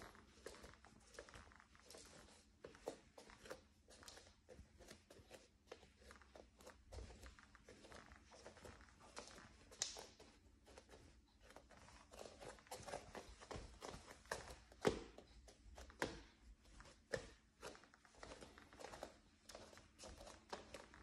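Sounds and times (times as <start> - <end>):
bare footsteps on wooden floor: 0.0 - 21.0.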